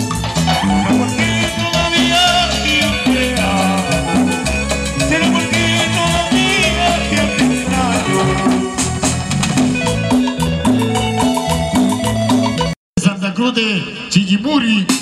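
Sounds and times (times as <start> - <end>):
live cumbia band playing: 0.0 - 13.3.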